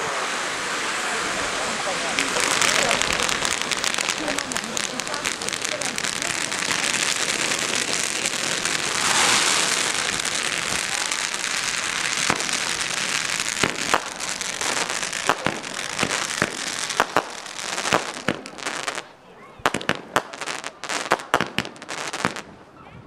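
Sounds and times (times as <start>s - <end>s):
firework fountains hissing: 0.0s - 22.5s
firework bangs and crackles: 0.0s - 22.7s.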